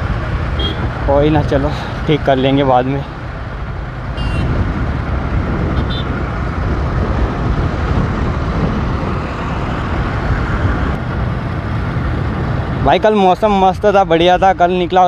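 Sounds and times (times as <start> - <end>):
motorcycle engine: 0.0 - 12.8
wind and road noise: 0.0 - 15.0.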